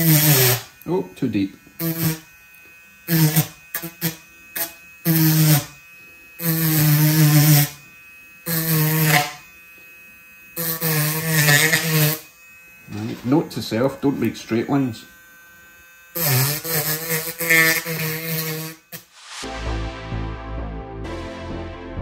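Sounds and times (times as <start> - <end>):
rotary tool grinding foam: 0.0 - 19.4.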